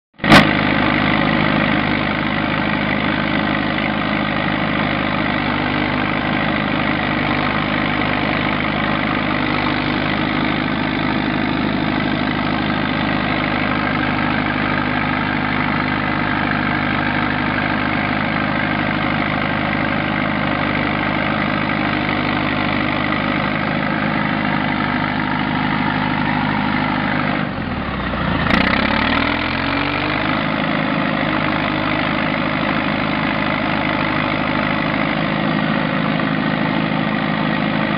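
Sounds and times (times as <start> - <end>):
bulldozer diesel engine running: 0.2 - 37.9.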